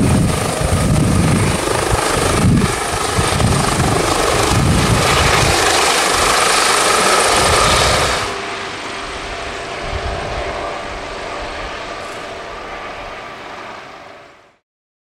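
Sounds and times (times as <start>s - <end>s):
helicopter rotor and turbine: 0.0s - 14.6s.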